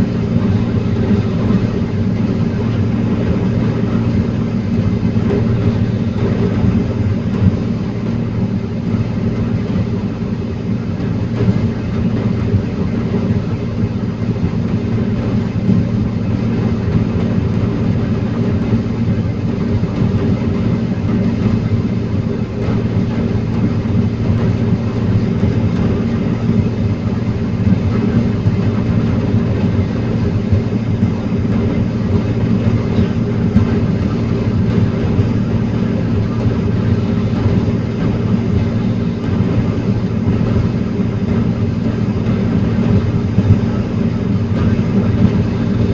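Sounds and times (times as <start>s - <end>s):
heavy engine running: 0.0s - 45.9s.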